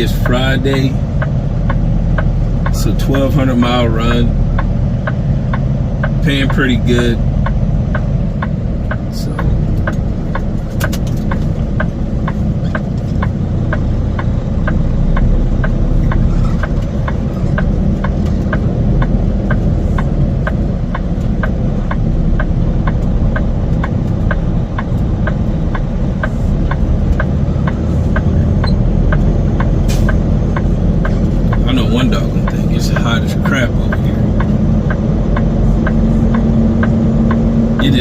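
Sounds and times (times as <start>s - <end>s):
diesel truck engine running: 0.0s - 38.0s
turn signal ticking: 0.0s - 38.0s.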